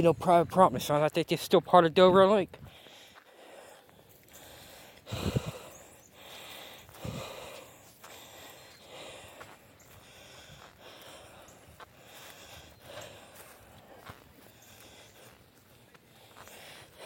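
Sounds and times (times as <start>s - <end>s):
breathing close to microphone: 2.6s - 17.0s
footsteps swishing through dry grass: 3.1s - 17.0s.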